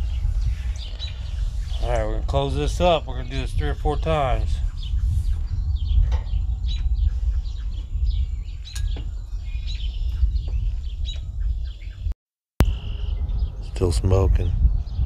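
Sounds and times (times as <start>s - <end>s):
small birds chirping: 0.0s - 15.0s
wind rumbling on microphone: 0.0s - 15.0s.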